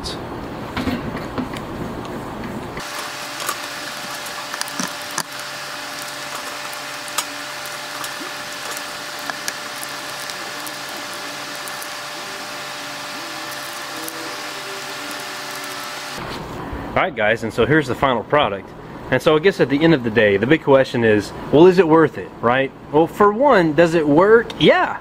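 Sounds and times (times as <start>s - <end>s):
mechanical hum and hiss: 0.0s - 25.0s.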